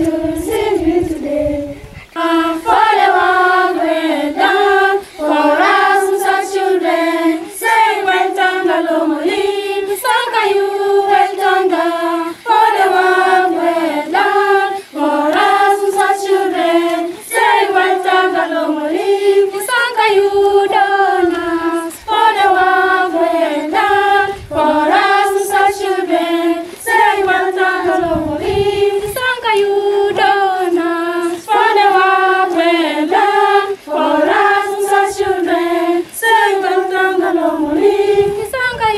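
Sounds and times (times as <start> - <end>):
girls singing in unison: 0.0 - 38.9.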